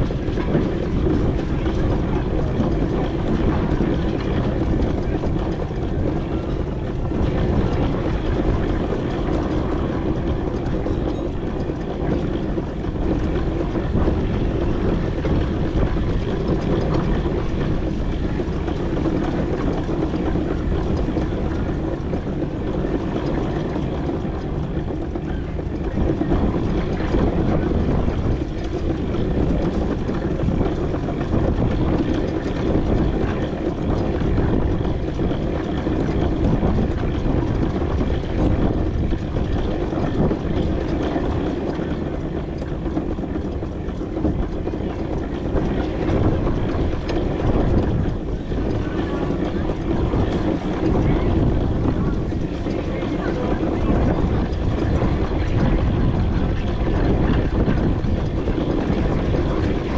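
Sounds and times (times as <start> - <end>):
steam traction engine running: 0.0 - 59.9.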